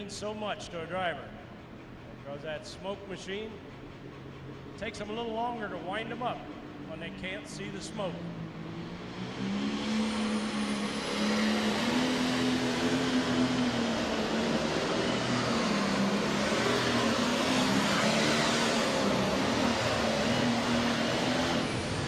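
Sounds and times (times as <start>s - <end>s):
diesel engine at full throttle: 0.0s - 22.0s.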